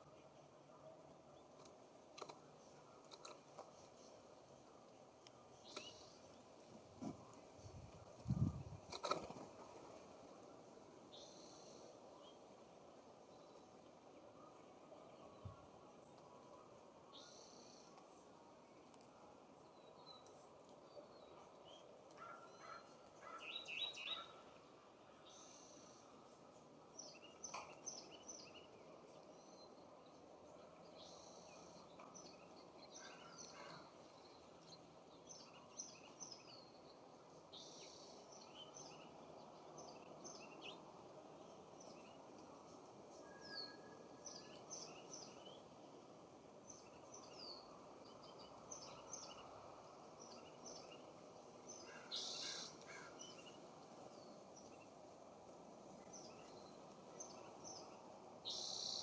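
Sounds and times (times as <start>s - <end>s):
faint birdsong chirps: 0.0s - 59.0s
low background hiss: 0.0s - 59.0s.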